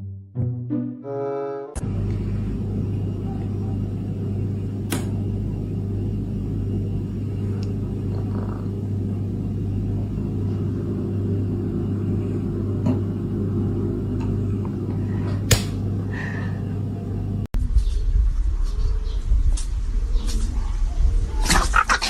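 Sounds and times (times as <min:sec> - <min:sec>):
low hum: 0:01.8 - 0:22.0.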